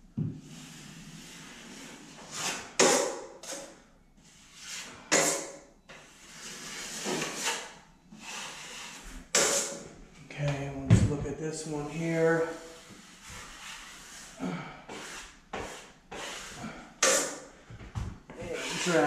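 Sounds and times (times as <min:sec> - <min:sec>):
drywall knife scraping: 0:00.4 - 0:09.9, 0:12.4 - 0:17.5, 0:18.3 - 0:19.0.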